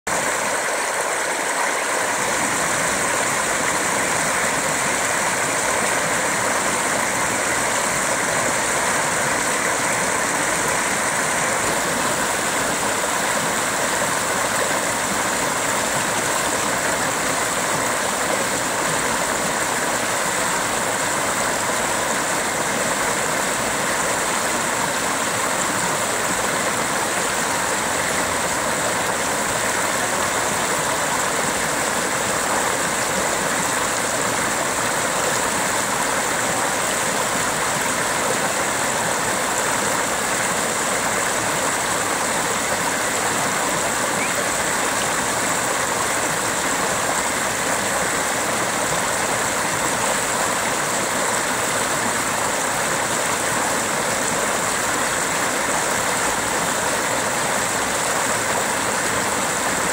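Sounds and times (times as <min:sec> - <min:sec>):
water rushing over spillway: 0:00.1 - 0:59.9.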